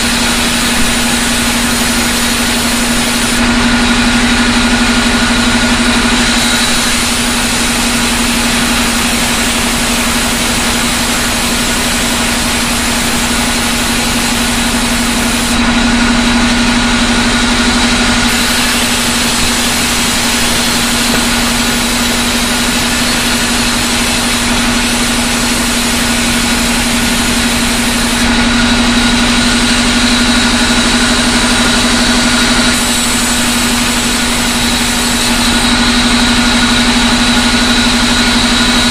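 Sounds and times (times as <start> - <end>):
band saw cutting wood: 0.0 - 38.9
constant machine hum: 0.0 - 38.9.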